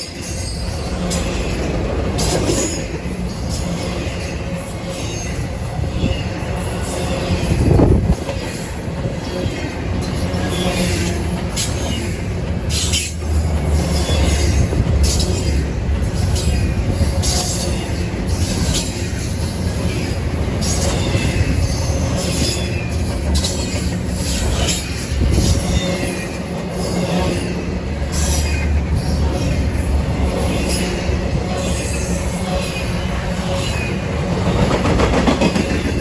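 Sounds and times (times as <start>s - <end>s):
train rumbling past: 0.0s - 36.0s
wheel squeal on rail: 0.0s - 36.0s
wheels clacking on rail joints: 0.0s - 36.0s.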